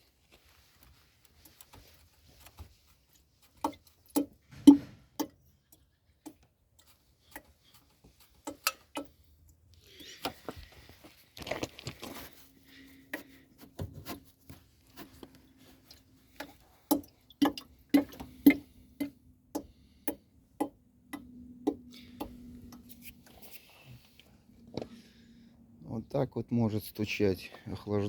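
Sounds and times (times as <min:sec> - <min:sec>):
low steady hum: 0:00.0 - 0:27.6.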